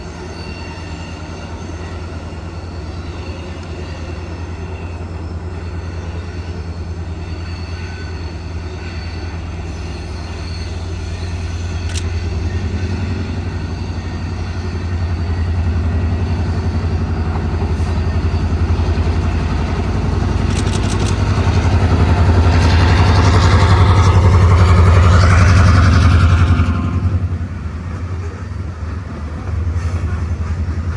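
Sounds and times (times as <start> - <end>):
diesel locomotive engine drone: 0.0 - 30.9
rail and wheel noise: 0.0 - 30.9.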